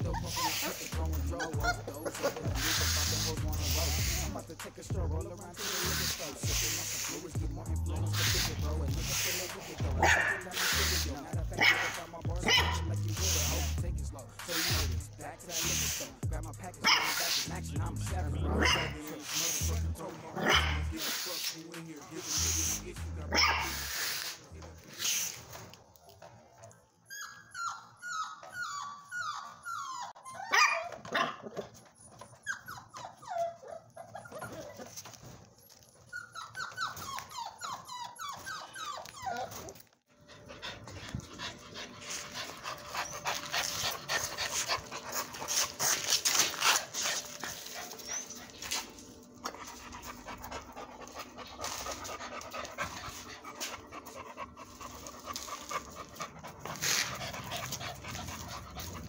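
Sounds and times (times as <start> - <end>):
dog panting: 0.0 - 26.8, 27.6 - 59.0
puppies whining: 0.0 - 59.0.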